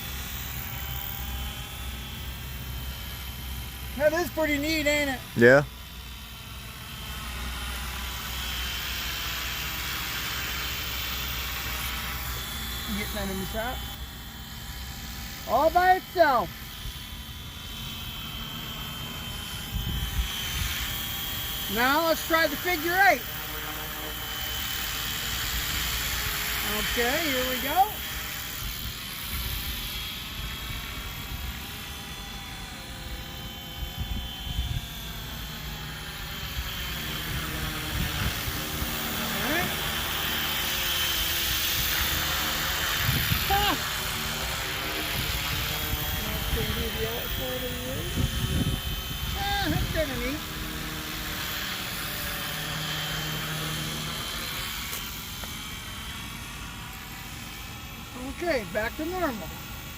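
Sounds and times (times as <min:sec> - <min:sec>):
rc helicopter rotor whine: 0:00.0 - 0:59.9.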